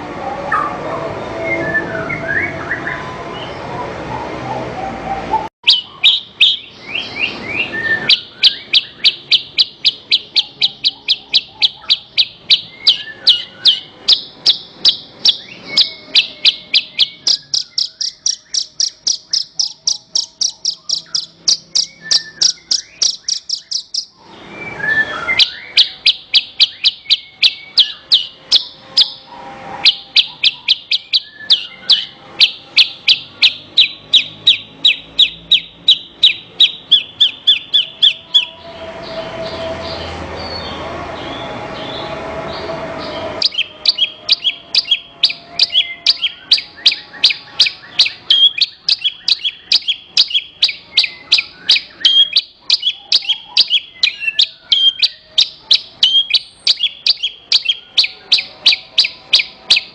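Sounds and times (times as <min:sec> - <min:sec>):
bird chirping: 0:01.4 - 0:59.9.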